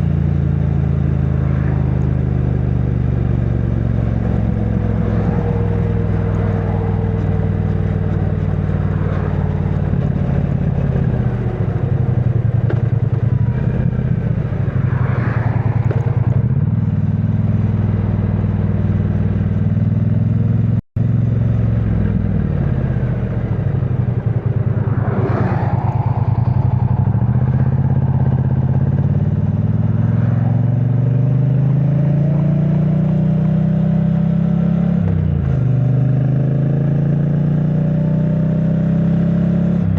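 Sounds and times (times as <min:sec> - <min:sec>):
muffled motorcycle engine: 0:00.0 - 0:39.9.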